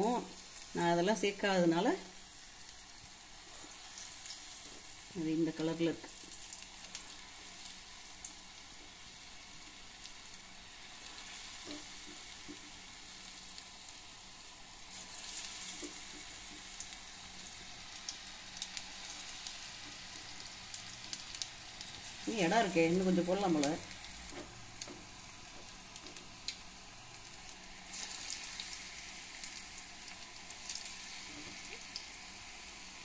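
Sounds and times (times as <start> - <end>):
faint oil crackles: 0.0 - 33.0
food sizzling in hot oil: 0.0 - 33.0.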